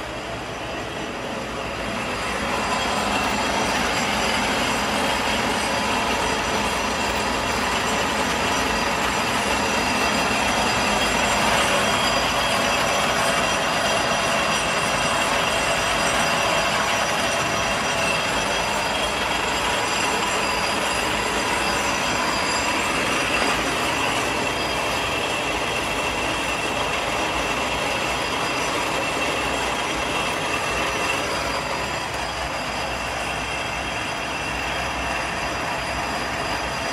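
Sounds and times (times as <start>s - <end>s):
high steady whining tones: 0.0s - 36.9s
screw machine running: 0.0s - 36.9s.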